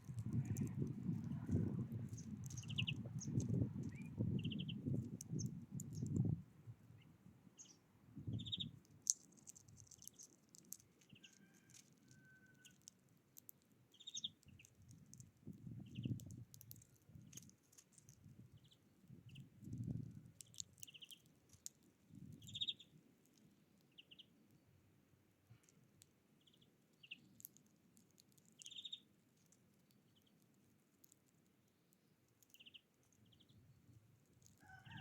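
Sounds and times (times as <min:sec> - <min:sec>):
small birds chirping: 0:00.0 - 0:24.8, 0:25.5 - 0:35.0.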